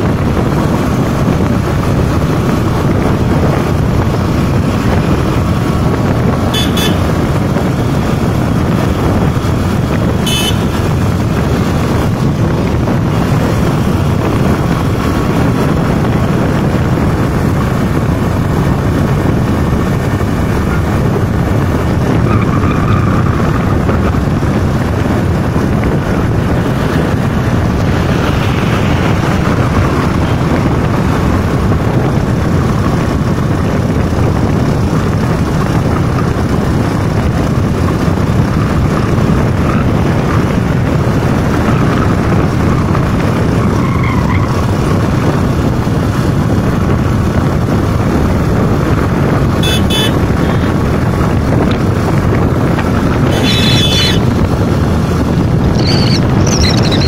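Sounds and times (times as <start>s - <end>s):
vehicle engine and road noise: 0.0s - 57.0s
wind on microphone: 0.0s - 57.0s.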